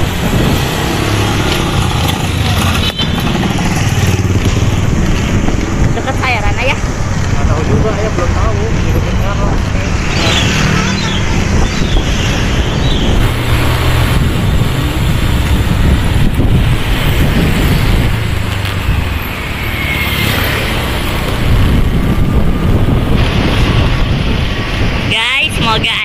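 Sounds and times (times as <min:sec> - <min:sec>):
vehicle engine: 0:00.0 - 0:25.1
road noise: 0:00.0 - 0:26.0.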